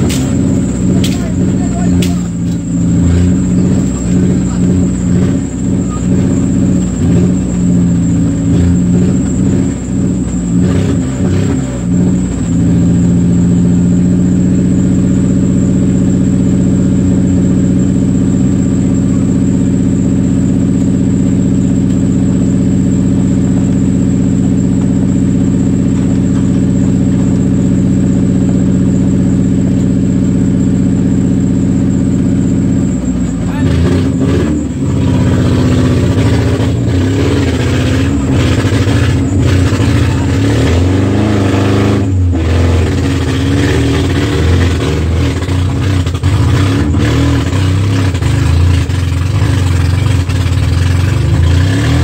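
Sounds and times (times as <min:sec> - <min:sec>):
vehicle engine from inside cab: 0:00.0 - 0:52.0.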